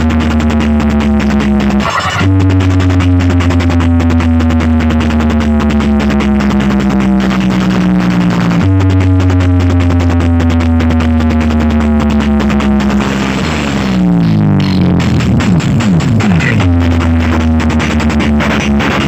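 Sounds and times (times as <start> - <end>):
rapid dense dance beat: 0.0 - 19.0
synth bass sliding down: 0.0 - 19.0.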